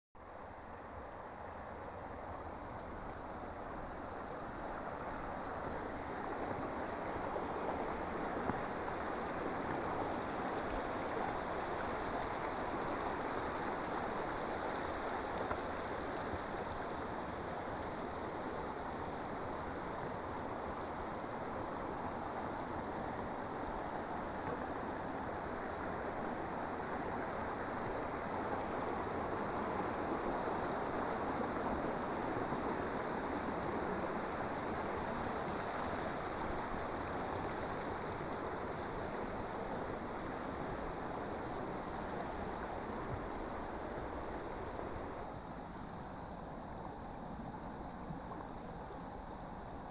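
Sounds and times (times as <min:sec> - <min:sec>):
insect chorus: 0:00.2 - 0:49.9.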